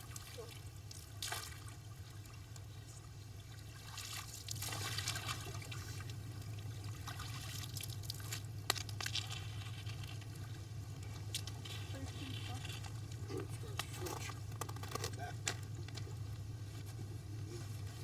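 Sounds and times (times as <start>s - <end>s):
water trickling and splashing: 0.0s - 16.4s
low hum: 0.0s - 18.0s.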